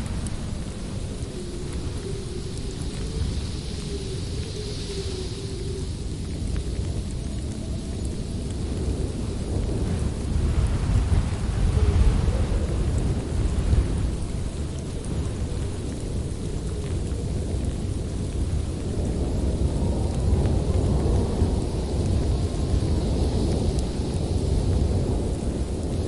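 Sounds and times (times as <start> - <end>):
howling wind: 0.0 - 26.0.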